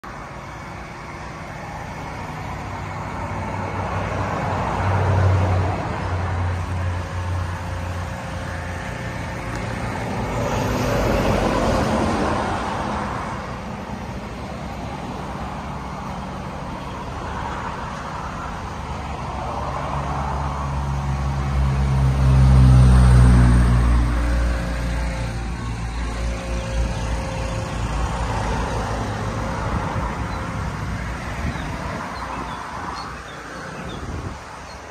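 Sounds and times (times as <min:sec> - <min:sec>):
cars passing by: 0:00.0 - 0:34.9
deep engine rumble: 0:00.0 - 0:34.9.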